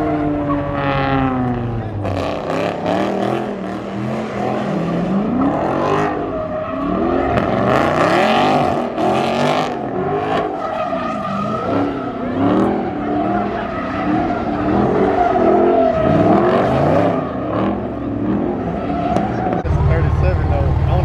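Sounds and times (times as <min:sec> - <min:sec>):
car engine revving hard: 0:00.0 - 0:21.0
tyres skidding: 0:00.0 - 0:21.0.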